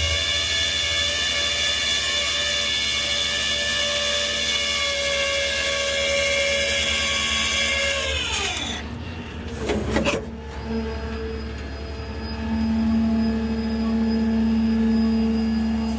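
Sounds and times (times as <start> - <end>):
motor whining high pitch: 0.0 - 15.9.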